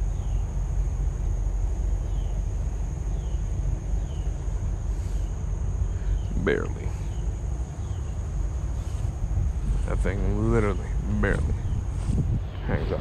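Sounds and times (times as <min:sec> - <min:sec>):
high insect drone: 0:00.0 - 0:13.0
wind rumbling on microphone: 0:00.0 - 0:13.0.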